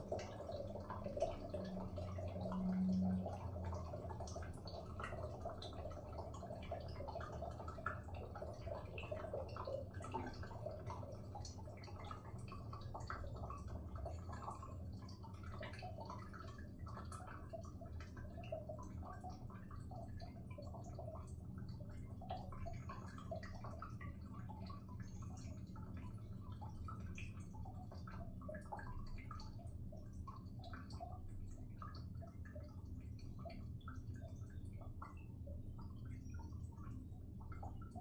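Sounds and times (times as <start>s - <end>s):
water dripping: 0.0s - 38.0s.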